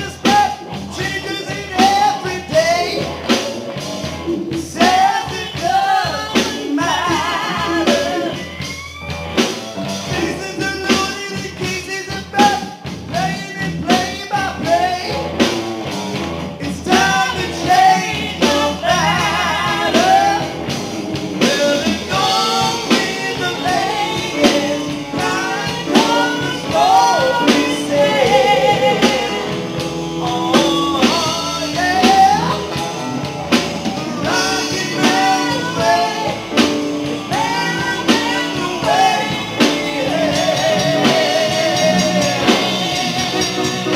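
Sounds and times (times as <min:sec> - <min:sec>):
person singing through pa: 0:00.0 - 0:03.6, 0:04.2 - 0:09.0, 0:10.0 - 0:15.4, 0:16.6 - 0:43.9
bass guitar: 0:00.0 - 0:43.9
drums with steady beat: 0:00.0 - 0:43.9
electric guitar: 0:00.0 - 0:43.9.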